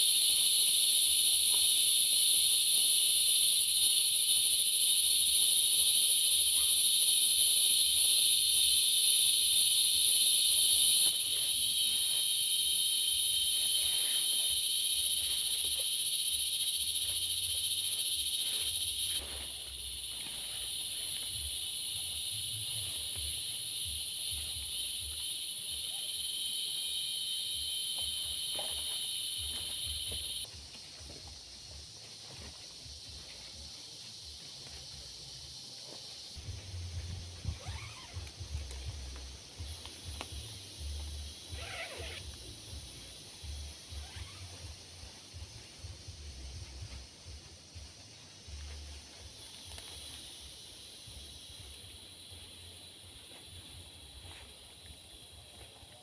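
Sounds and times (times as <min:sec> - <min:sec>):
insects buzzing shrilly: 0:00.0 - 0:56.0.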